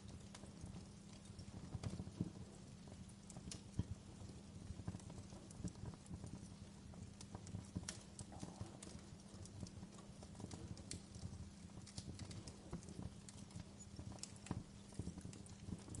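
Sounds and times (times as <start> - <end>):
logs crackling in a fireplace: 0.0 - 16.0.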